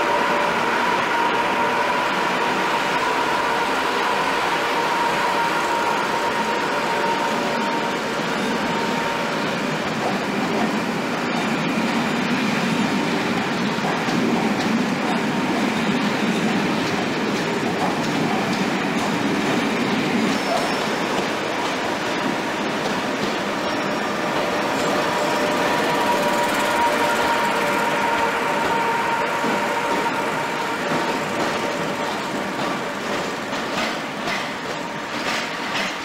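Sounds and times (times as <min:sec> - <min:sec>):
electric train high hum: 0:00.0 - 0:36.0
wheels rumbling on track: 0:06.3 - 0:36.0.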